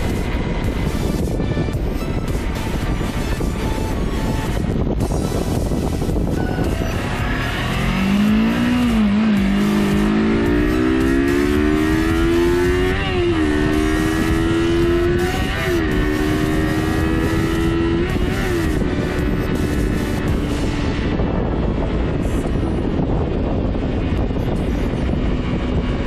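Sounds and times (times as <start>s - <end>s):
motorcycle engine accelerating: 0.0s - 26.0s
wind and road noise: 0.0s - 26.0s.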